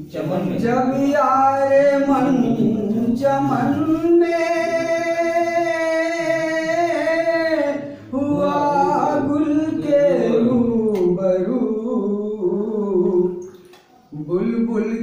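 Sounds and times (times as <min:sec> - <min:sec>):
man singing unaccompanied: 0:00.0 - 0:13.5, 0:14.1 - 0:15.0.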